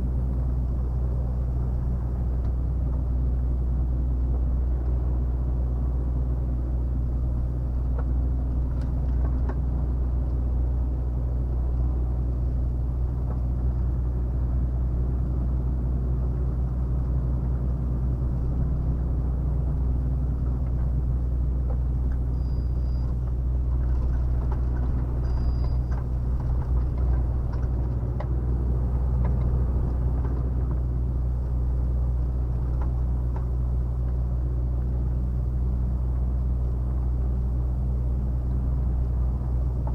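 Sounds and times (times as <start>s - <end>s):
road rumble: 0.0s - 39.9s
truck diesel engine drone: 0.0s - 39.9s.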